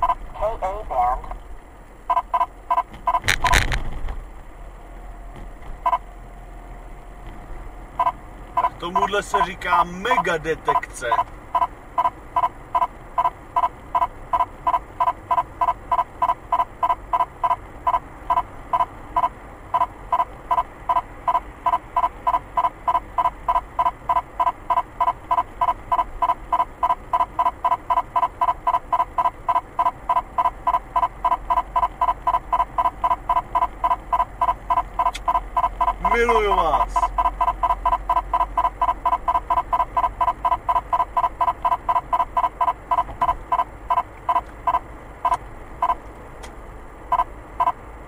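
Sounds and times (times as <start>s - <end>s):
radar detector two-tone beeping: 2.1s - 3.3s, 5.8s - 6.0s, 8.0s - 9.5s, 10.1s - 46.0s, 47.1s - 47.8s.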